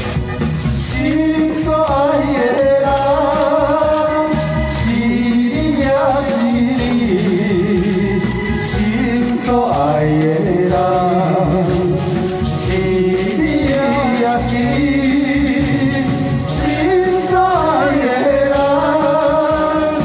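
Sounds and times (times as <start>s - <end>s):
backing music: 0.0s - 20.0s
tambourine shaken: 0.0s - 20.0s
men singing into microphones: 0.6s - 20.0s.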